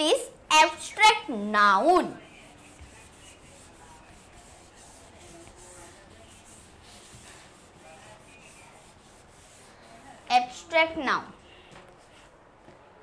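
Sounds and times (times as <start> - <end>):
cloth wiping chalkboard: 0.1 - 12.8.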